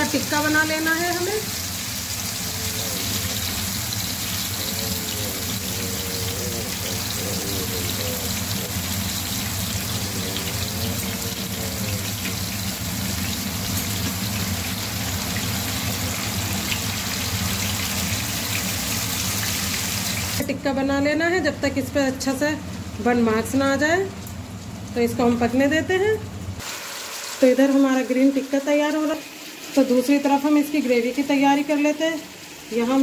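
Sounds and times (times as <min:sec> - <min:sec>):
chicken sizzling in hot oil: 0:00.0 - 0:20.4, 0:26.5 - 0:33.0.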